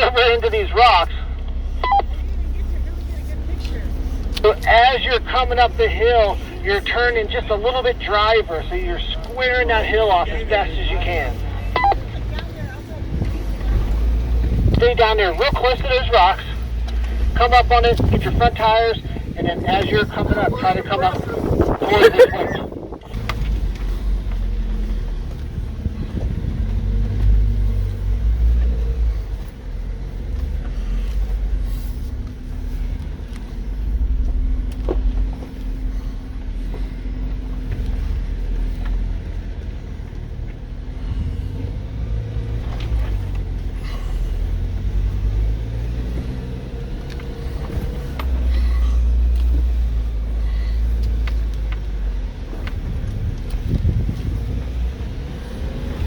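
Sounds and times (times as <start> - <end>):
engine pulling at low speed: 0.0 - 56.0.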